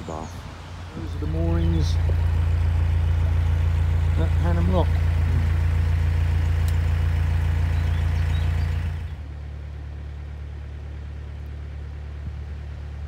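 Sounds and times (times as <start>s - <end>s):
boat engine low drone: 0.0s - 13.0s.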